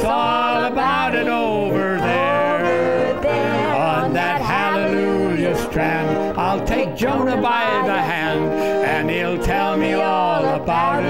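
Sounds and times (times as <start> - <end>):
electronic keyboard: 0.0 - 11.0
man singing: 0.0 - 11.0
piano accordion: 0.0 - 11.0.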